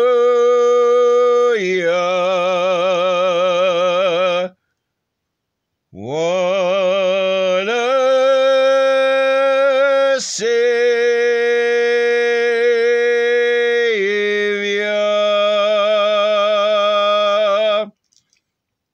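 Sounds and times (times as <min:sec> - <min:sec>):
man singing unaccompanied: 0:00.0 - 0:04.6, 0:05.9 - 0:18.0.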